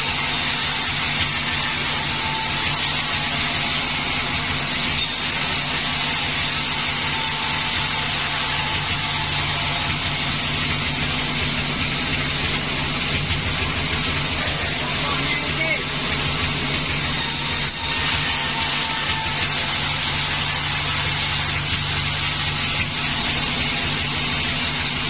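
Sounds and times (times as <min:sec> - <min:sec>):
sawmill motor drone: 0:00.0 - 0:25.0.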